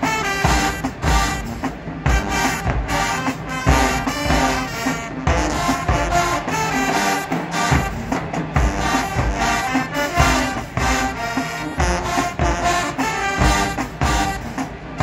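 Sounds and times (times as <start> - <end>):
marching band brass tune: 0.0 - 15.0.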